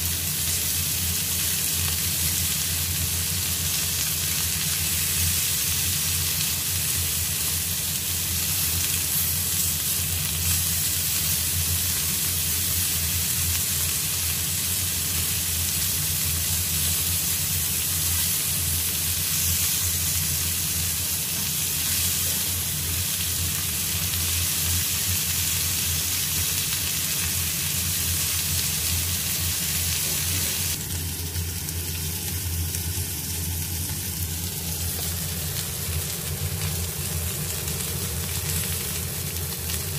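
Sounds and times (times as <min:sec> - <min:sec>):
chicken sizzling on grill pan: 0:00.0 - 0:39.9.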